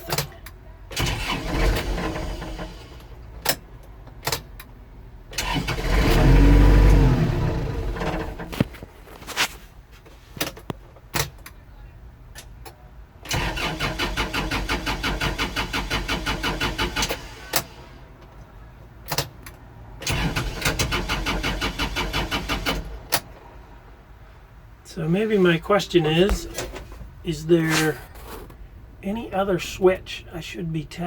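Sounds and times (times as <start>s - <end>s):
diesel engine cranking: 0.0s - 8.9s, 12.3s - 31.0s.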